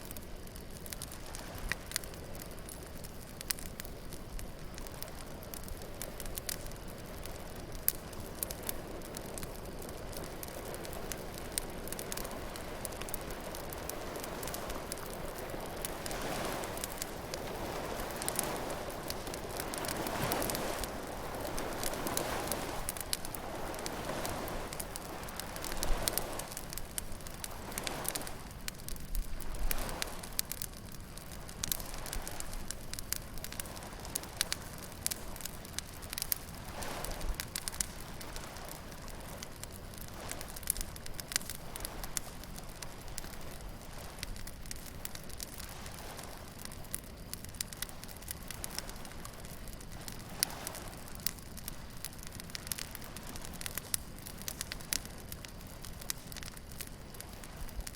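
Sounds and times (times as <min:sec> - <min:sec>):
bonfire crackling and popping: 0:00.0 - 0:57.9
waves washing in softly: 0:00.0 - 0:57.9.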